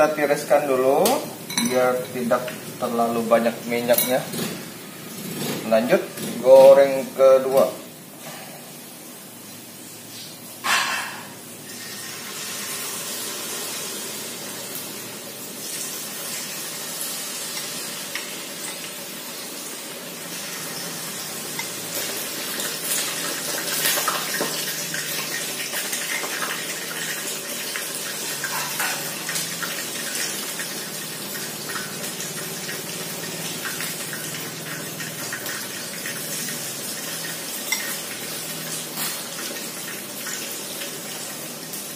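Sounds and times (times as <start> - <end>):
hot oil sizzling: 0.0 - 41.9.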